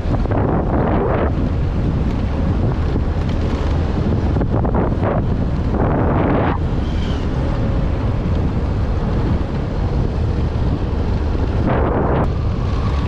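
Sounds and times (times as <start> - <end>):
road noise: 0.0 - 13.0
vehicle engine: 0.0 - 13.0
wind buffeting microphone: 0.0 - 13.0.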